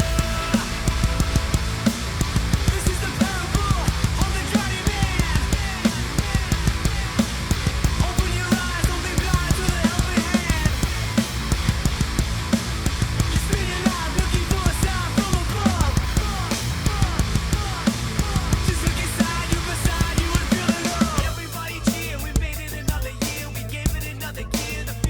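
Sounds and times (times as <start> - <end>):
drum kit played hard: 0.0 - 25.0
heavy rock song: 0.0 - 25.0.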